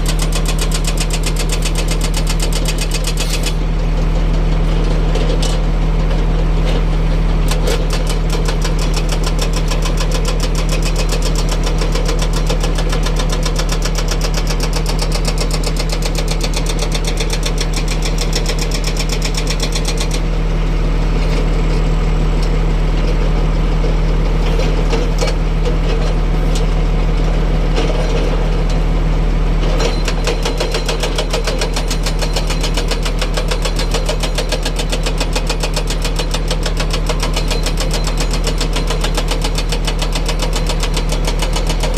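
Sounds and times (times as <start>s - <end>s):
diesel machine engine running: 0.0s - 41.9s.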